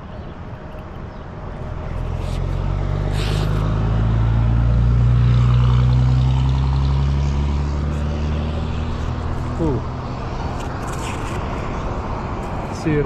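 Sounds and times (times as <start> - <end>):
vehicle engine passing: 1.7 - 13.0.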